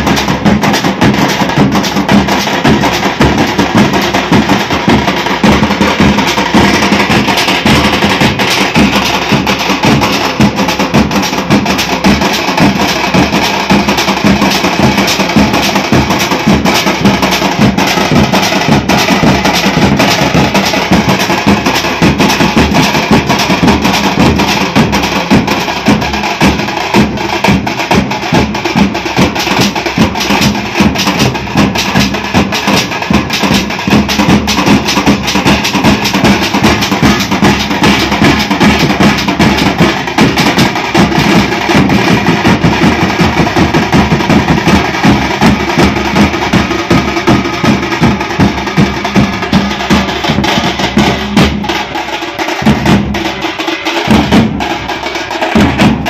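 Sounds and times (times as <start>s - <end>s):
drum troupe playing fast rhythm: 0.0s - 56.0s.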